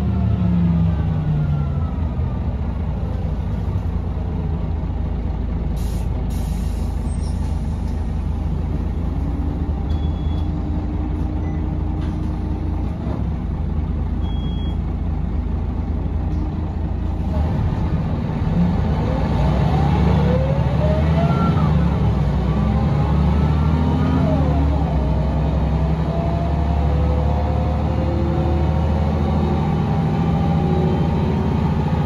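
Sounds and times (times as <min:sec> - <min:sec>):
bus engine running: 0:00.0 - 0:32.0.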